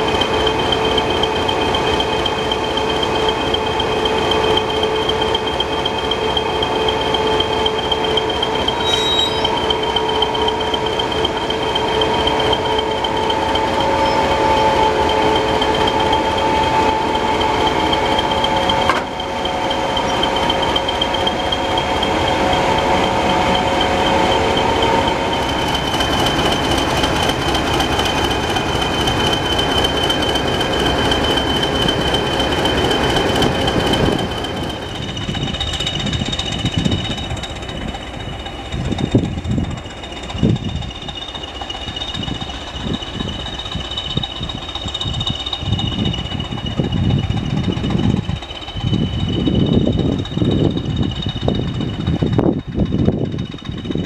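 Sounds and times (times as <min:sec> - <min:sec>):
diesel locomotive engine idling: 0:00.0 - 0:54.0.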